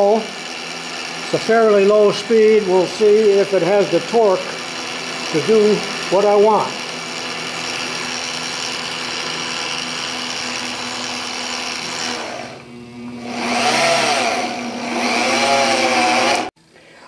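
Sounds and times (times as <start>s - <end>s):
drill press motor running: 0.0s - 16.6s.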